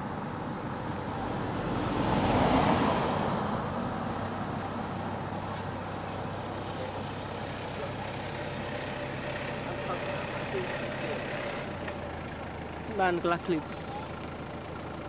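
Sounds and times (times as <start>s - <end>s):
low traffic hum: 0.0s - 15.0s
motor vehicle passing: 0.7s - 15.0s.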